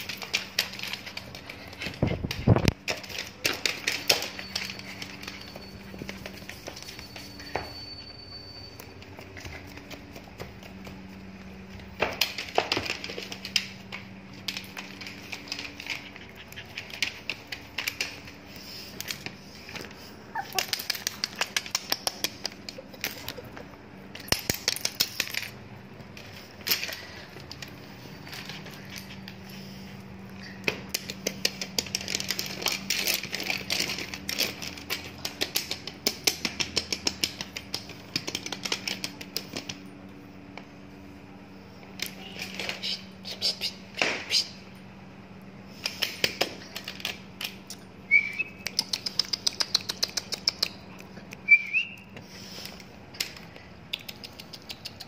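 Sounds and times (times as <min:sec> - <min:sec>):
puppy claws clicking on tiles: 0:00.0 - 0:07.8, 0:08.8 - 0:40.7, 0:45.7 - 0:55.0.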